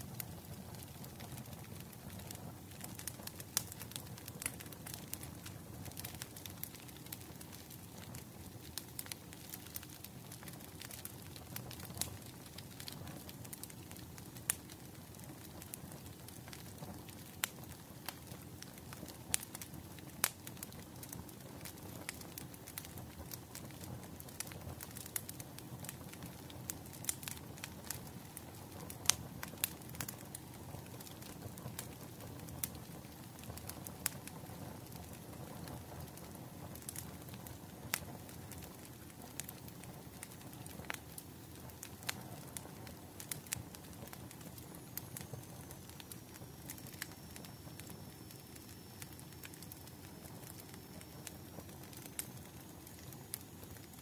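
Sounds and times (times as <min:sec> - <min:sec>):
fire popping and snapping: 0:00.0 - 0:54.0
low rumble of burning: 0:00.0 - 0:54.0.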